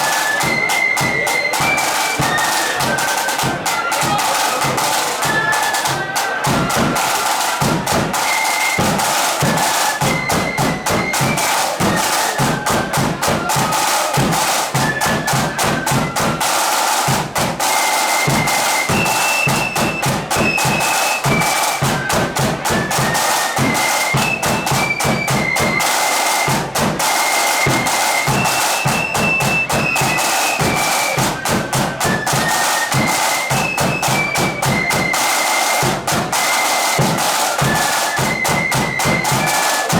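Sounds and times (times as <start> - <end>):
flute melody: 0.0 - 39.9
snare drums: 0.0 - 39.9.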